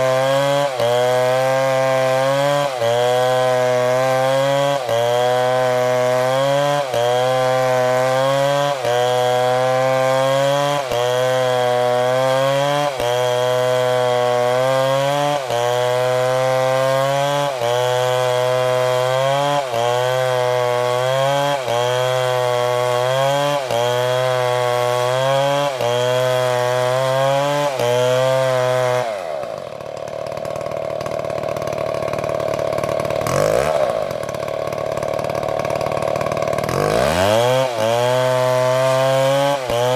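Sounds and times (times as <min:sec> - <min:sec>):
chainsaw cutting: 0:00.0 - 0:39.9.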